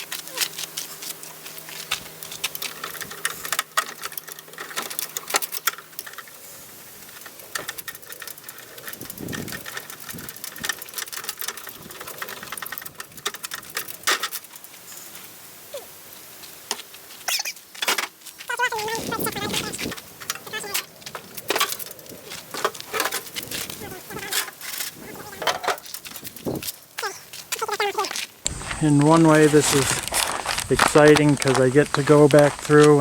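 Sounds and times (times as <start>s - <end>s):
hand tools and metal parts clinking: 0.0s - 15.3s, 16.4s - 33.0s.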